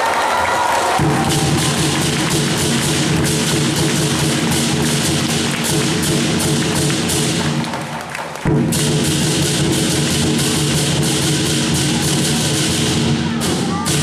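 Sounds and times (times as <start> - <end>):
drum cymbals and gong band: 1.0 - 14.0.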